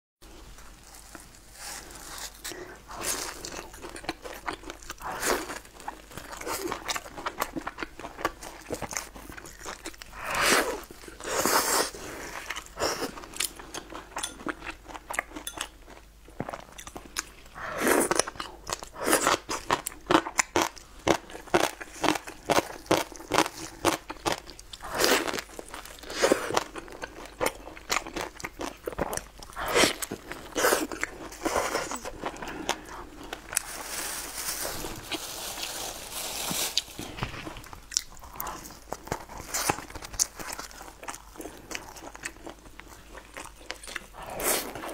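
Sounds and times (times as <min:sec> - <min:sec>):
crunching and chewing flatbread: 0:00.2 - 0:44.9.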